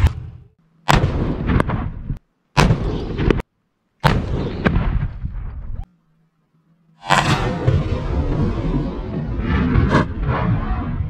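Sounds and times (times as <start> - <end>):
cannon firing booms: 0.0 - 5.8, 7.0 - 11.0.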